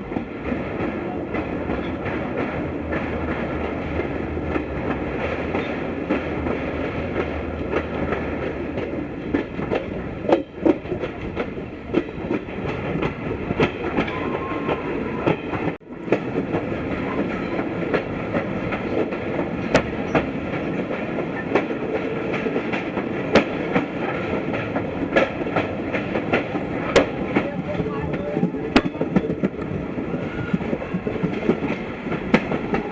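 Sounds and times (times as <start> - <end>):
train carriage rumble: 0.0 - 32.9
wheels clicking over rail joints: 0.0 - 32.9.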